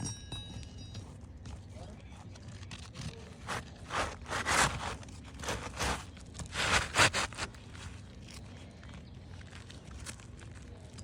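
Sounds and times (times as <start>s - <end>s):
scraping on a shingle roof: 1.2s - 11.0s.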